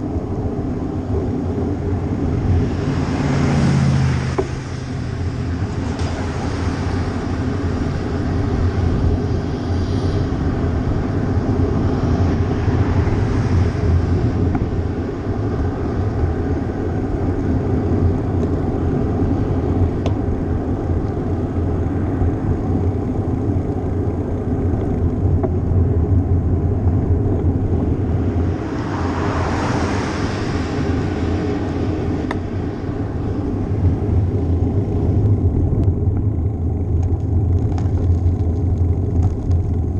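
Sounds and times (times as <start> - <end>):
passing vehicles: 0.0 - 39.9
road noise while riding: 0.0 - 39.9
wind rush: 0.0 - 39.9.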